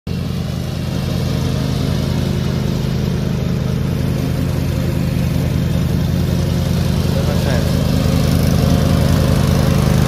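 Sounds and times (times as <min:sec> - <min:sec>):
riding mower engine running: 0:00.1 - 0:10.0.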